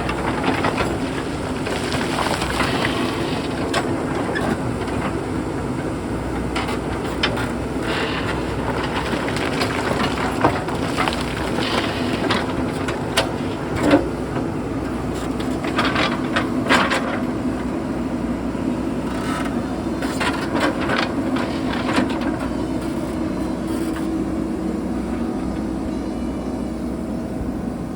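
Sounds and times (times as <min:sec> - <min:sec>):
diesel engine under load: 0:00.0 - 0:27.9.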